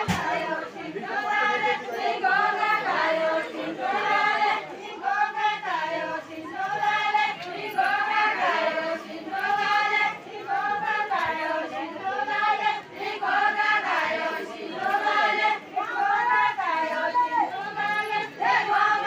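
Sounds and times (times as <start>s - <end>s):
group singing folk song in chorus: 0.0s - 19.0s.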